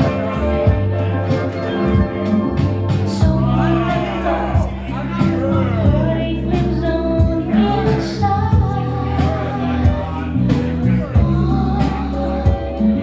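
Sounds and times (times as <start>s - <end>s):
live band playing rock: 0.0s - 13.0s
person singing: 0.0s - 13.0s.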